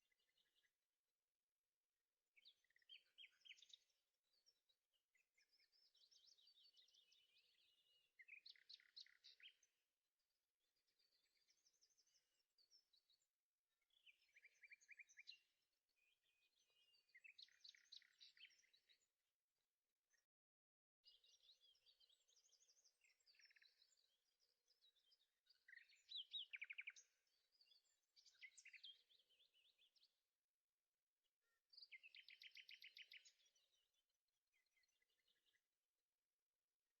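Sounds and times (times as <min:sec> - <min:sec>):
faint birdsong chirps and trills: 0:00.0 - 0:37.0.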